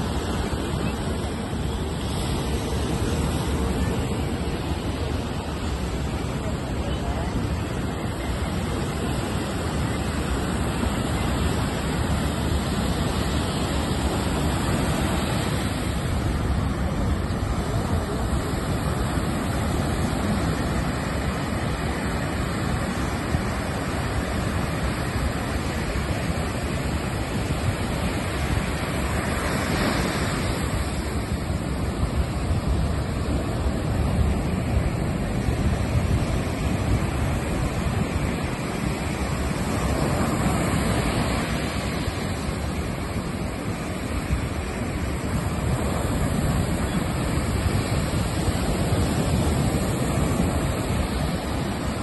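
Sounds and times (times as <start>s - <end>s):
sea surf breaking on shore: 0.0s - 52.0s.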